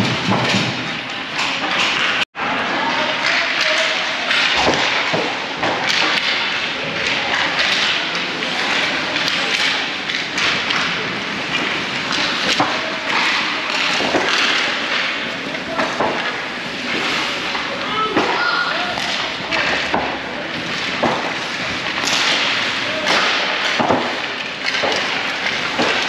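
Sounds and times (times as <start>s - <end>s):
faint voices: 0.9s - 26.0s.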